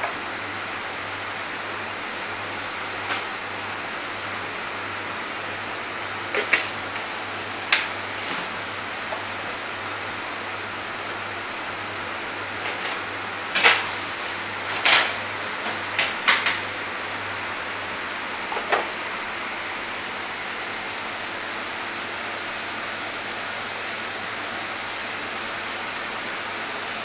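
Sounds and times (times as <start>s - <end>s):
kitchen ventilation hiss: 0.0s - 27.0s.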